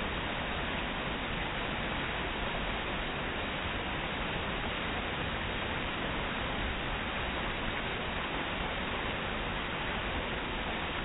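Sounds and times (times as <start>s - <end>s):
water cascading over waterfall: 0.0s - 11.0s.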